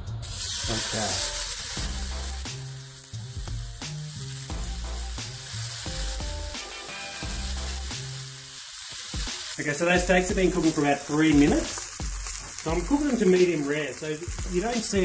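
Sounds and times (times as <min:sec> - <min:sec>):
background music: 0:00.0 - 0:15.0
steaks sizzling in skillet: 0:00.0 - 0:15.0.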